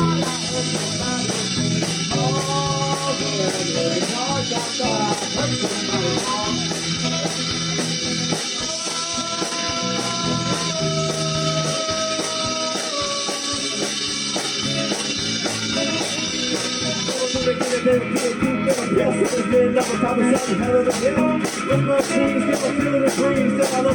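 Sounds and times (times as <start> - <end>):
guitar holding long notes: 0.0 - 23.9
steady drum beat: 0.0 - 23.9.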